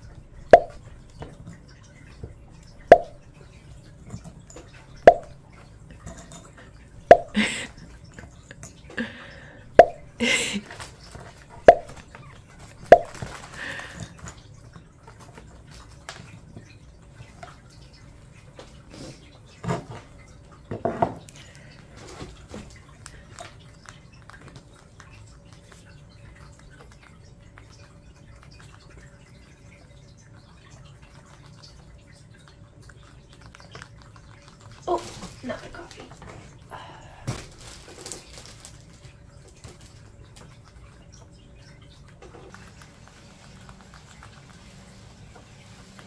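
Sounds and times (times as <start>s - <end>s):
rats nibbling and crunching chips: 0.0s - 46.0s.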